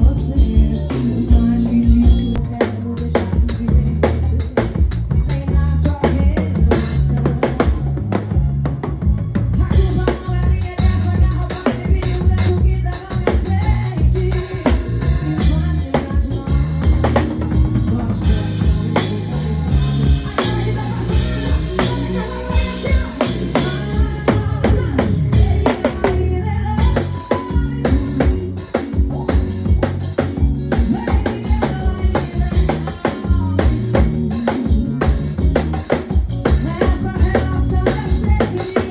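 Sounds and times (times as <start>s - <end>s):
bass line: 0.0s - 38.9s
drum kit beat: 0.0s - 38.9s
keyboard: 0.0s - 38.9s.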